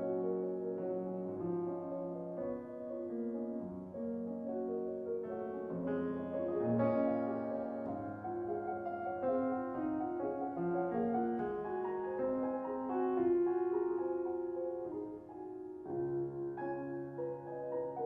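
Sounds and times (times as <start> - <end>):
slow classical piano piece: 0.0 - 18.0.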